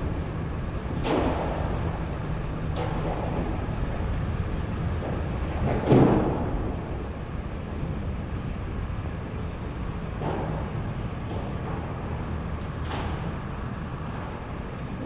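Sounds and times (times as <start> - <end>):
distant traffic hum: 0.0 - 15.0.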